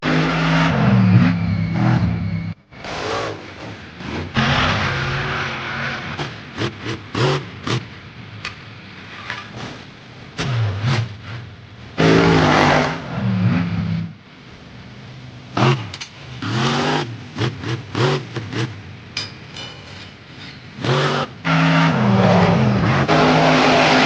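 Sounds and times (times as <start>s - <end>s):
monster truck engines revving: 0.0s - 14.4s, 15.1s - 19.1s, 20.3s - 24.0s.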